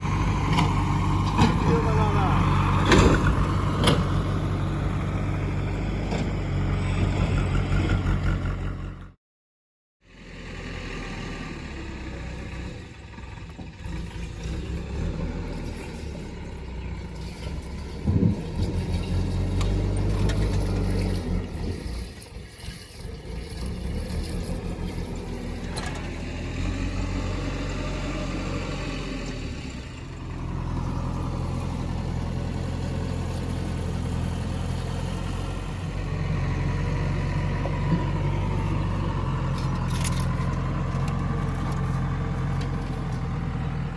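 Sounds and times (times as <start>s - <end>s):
heavy diesel engine running: 0.0s - 9.1s, 10.1s - 43.9s.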